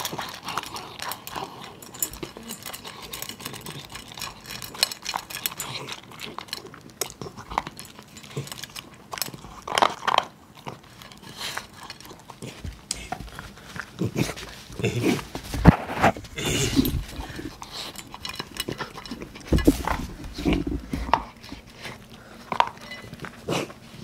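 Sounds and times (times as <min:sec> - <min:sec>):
dog eating from a metal bowl: 0:00.0 - 0:24.0.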